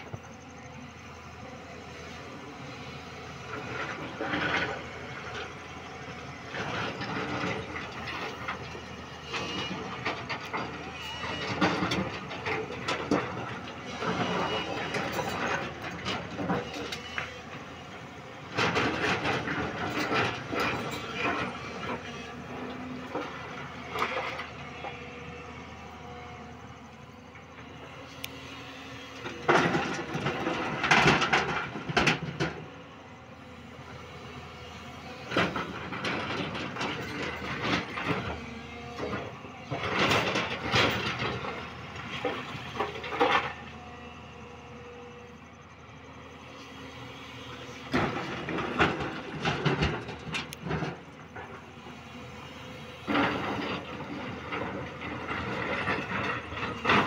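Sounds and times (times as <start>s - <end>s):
excavator engine and hydraulics: 0.0s - 57.0s.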